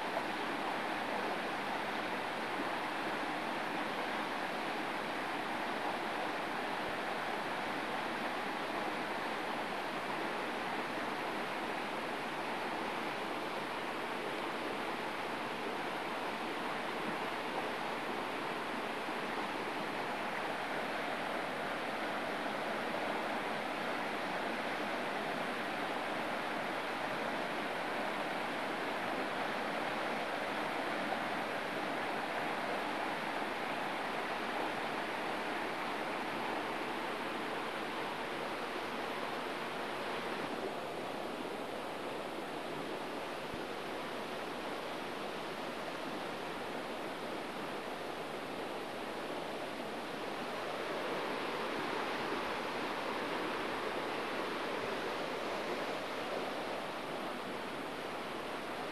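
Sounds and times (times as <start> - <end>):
flowing river water: 0.0 - 58.9.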